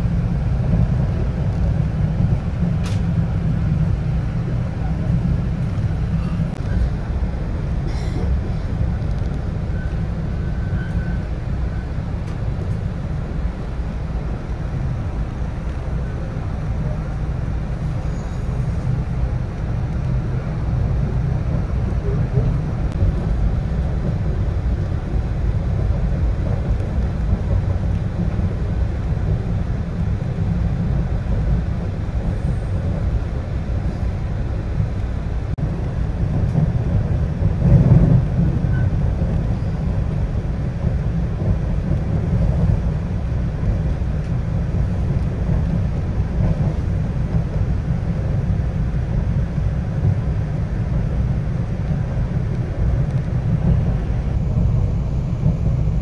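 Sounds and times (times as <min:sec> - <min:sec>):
train rumbling on tracks: 0:00.0 - 0:56.0.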